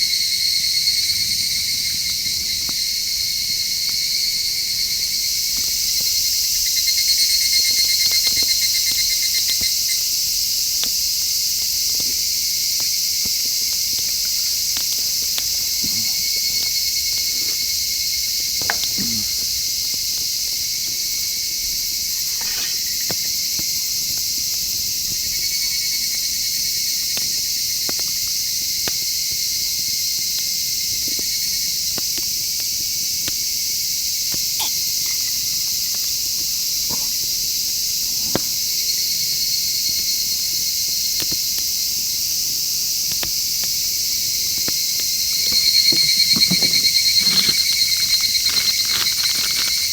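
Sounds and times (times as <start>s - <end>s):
high insect trill: 0.0s - 49.9s
night insects chorus: 0.0s - 49.9s.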